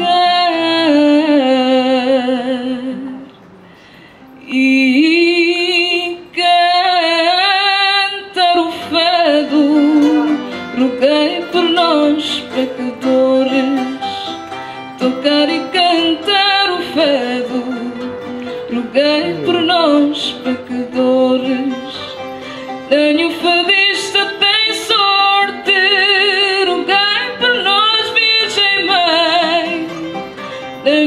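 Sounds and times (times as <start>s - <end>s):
woman singing with vibrato: 0.0s - 3.3s, 4.4s - 14.4s, 15.0s - 22.0s, 22.9s - 30.2s
acoustic guitars: 0.0s - 31.0s.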